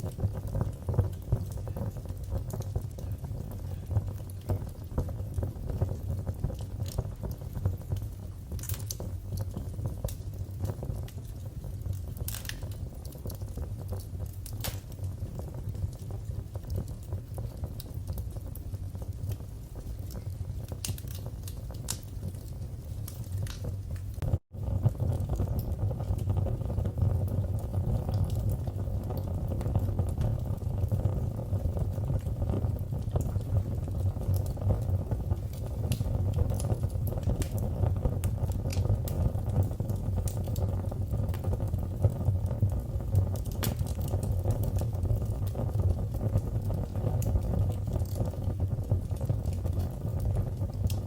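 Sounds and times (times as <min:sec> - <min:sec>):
fire pops and clicks: 0:00.0 - 0:51.0
wood fire crackling: 0:00.0 - 0:51.0.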